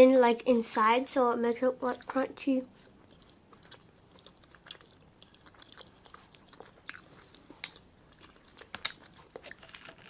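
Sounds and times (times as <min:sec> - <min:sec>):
chewing crunchy cake: 0:01.5 - 0:10.0.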